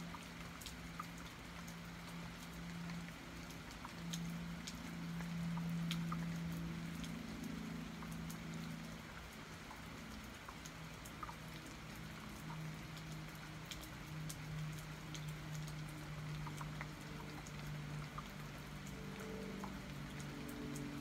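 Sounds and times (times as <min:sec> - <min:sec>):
low steady hum: 0:00.0 - 0:21.0
rain falling: 0:00.0 - 0:21.0
drops ticking: 0:00.1 - 0:21.0.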